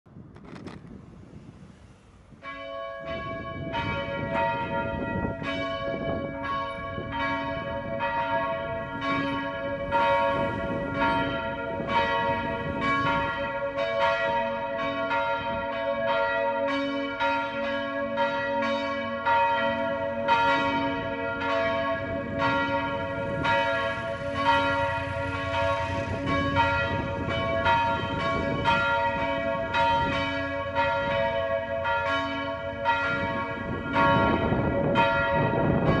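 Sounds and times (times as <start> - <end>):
church bells ringing: 2.4 - 36.0.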